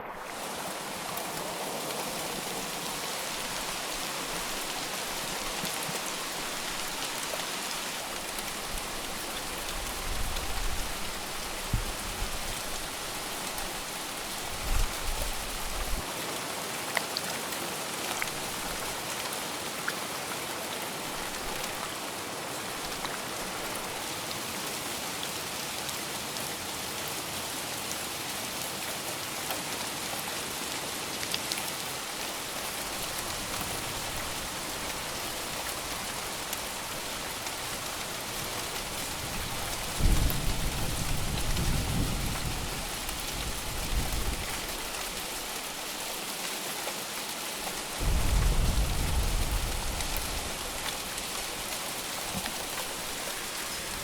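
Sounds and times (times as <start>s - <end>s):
heavy rain falling: 0.0s - 54.0s
sharp raindrops: 0.0s - 54.0s.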